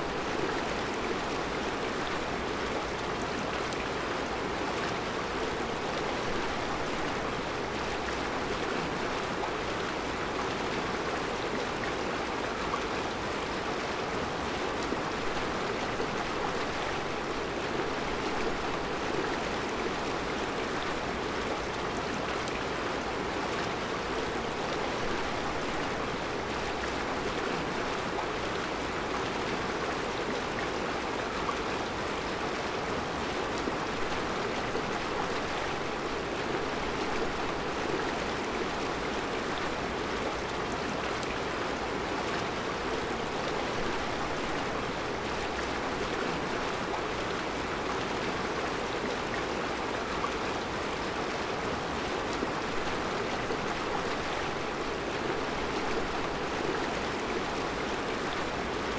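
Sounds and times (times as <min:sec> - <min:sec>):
river flowing over rocks: 0:00.0 - 0:58.9.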